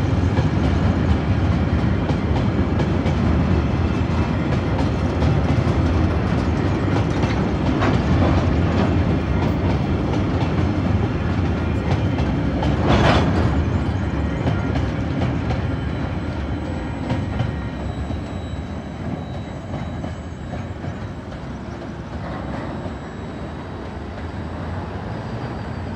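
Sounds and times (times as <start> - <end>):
train wheels clacking over rails: 0.0 - 25.9.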